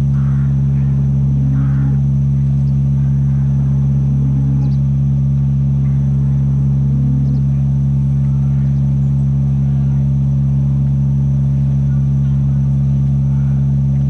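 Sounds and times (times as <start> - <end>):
loud steady low hum: 0.0 - 14.0.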